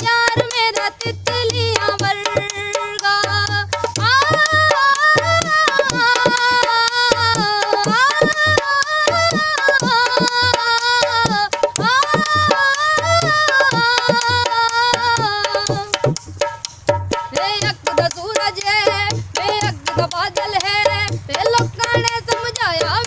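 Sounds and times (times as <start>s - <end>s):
drum beat: 0.0s - 23.0s.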